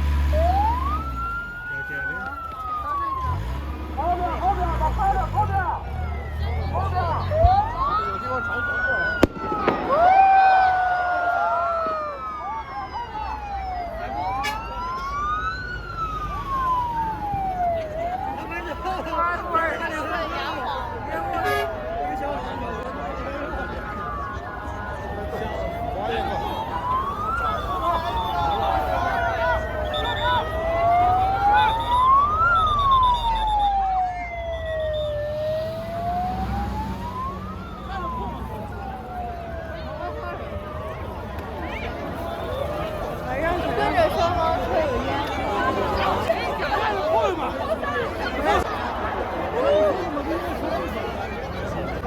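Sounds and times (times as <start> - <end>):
crowd noise: 0.0 - 52.0
sirens wailing: 0.0 - 52.0.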